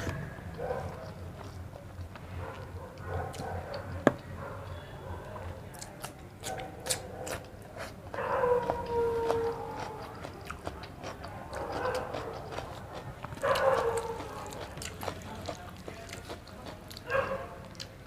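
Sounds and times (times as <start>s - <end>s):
soft clicking of chewing: 0.1s - 18.0s.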